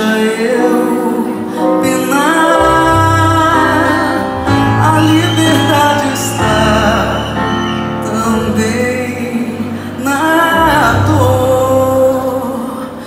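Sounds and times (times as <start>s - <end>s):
live band music: 0.0s - 13.0s
person singing long notes: 0.0s - 13.0s.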